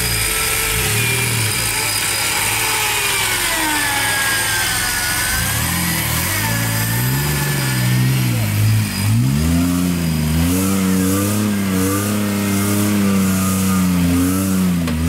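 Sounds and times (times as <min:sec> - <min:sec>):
car engine revving: 0:00.0 - 0:15.0
electric winch whining: 0:00.0 - 0:15.0.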